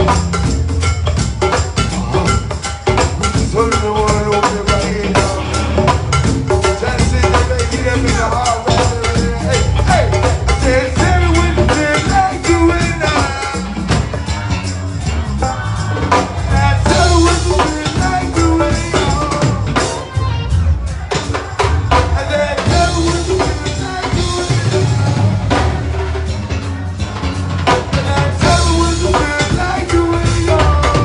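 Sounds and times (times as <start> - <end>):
drum kit and percussion: 0.0 - 31.0
heavy bass line: 0.0 - 31.0
person singing: 1.4 - 31.0.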